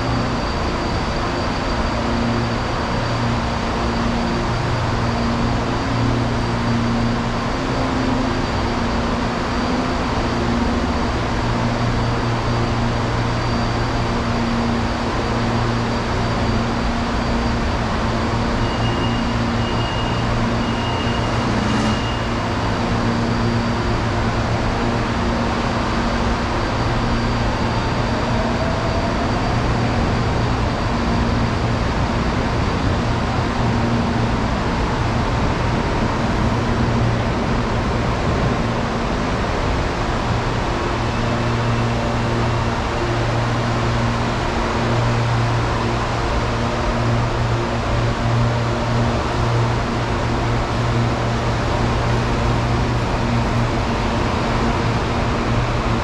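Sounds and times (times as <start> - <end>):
electric train rumble and hum: 0.0 - 56.0.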